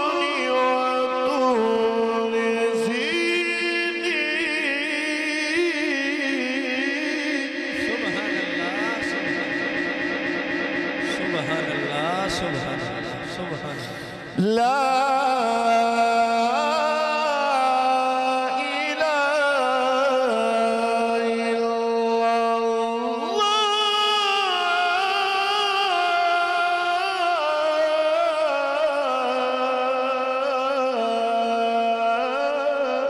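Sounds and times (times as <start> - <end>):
man reciting melodically: 0.0 - 33.0.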